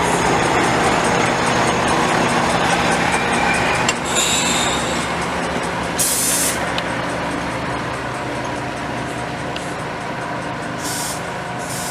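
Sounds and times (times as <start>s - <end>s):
train engine hum: 0.0s - 11.9s.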